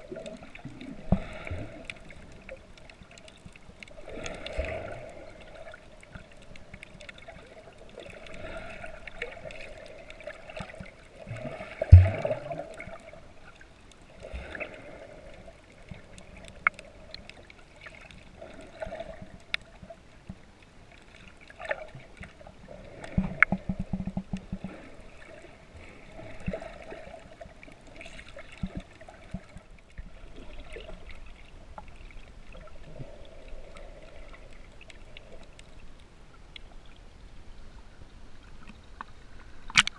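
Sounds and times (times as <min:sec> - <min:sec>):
muffled underwater sloshing and bubbling: 0:00.0 - 0:39.9.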